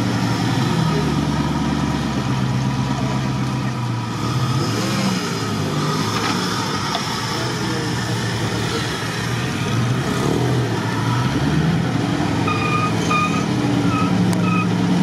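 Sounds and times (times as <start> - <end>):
truck engine straining: 0.0 - 15.0.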